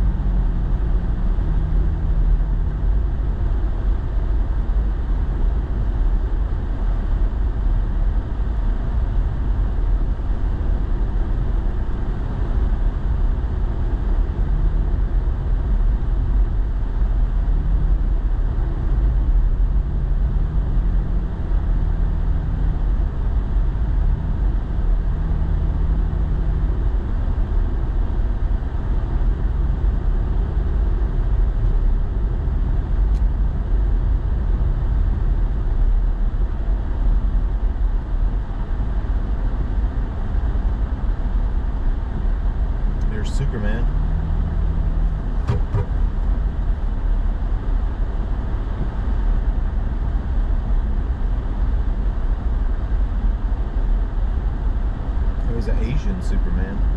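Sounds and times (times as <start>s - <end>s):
faint engine hum: 0.0s - 56.9s
road noise in truck cab: 0.0s - 56.9s.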